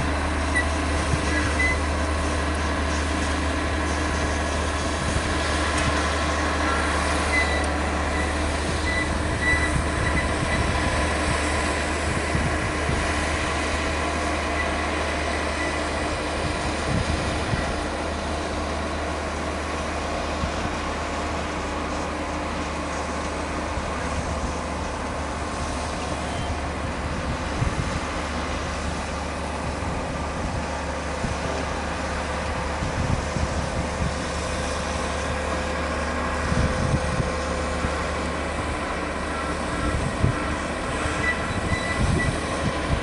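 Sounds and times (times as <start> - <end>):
construction machinery engine drone: 0.0 - 43.0.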